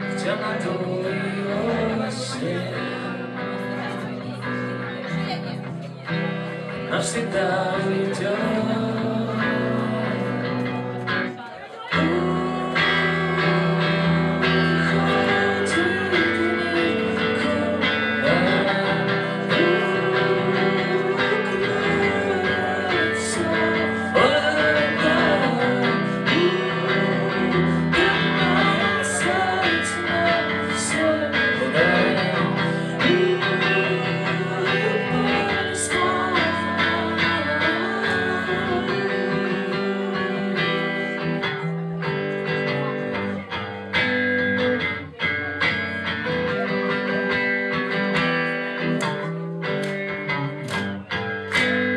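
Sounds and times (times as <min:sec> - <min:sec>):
man singing: 0:00.0 - 0:05.2, 0:06.2 - 0:51.9
electric guitar: 0:00.0 - 0:51.9.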